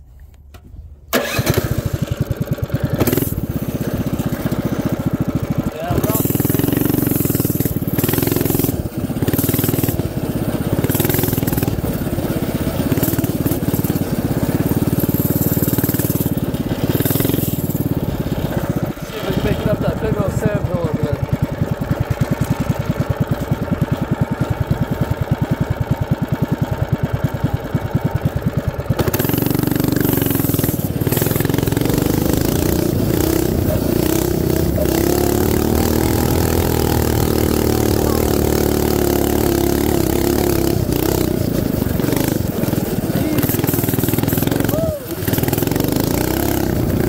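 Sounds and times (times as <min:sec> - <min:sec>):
small engine running: 0:01.1 - 0:47.0.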